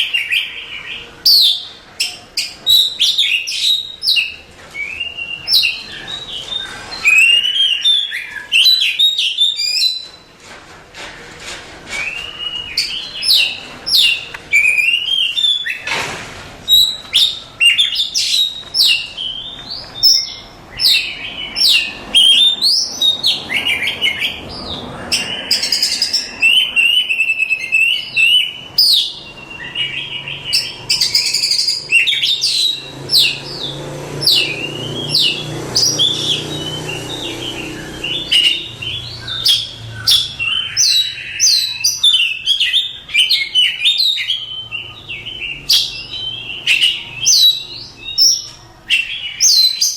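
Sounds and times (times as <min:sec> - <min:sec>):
bird singing varied song: 0:00.0 - 0:10.3, 0:12.0 - 0:15.9, 0:16.6 - 0:49.9.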